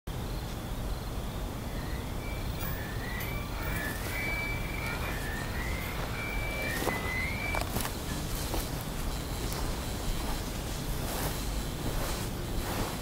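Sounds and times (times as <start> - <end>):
high drawn-out calls: 1.5 - 12.2.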